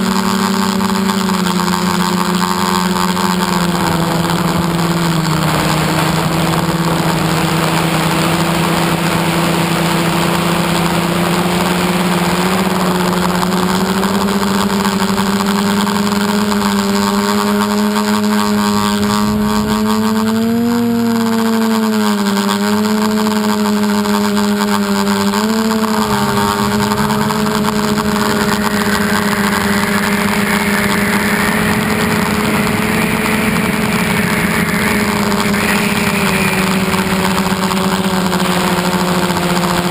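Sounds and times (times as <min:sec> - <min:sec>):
aircraft propellers humming: 0:00.0 - 0:39.9.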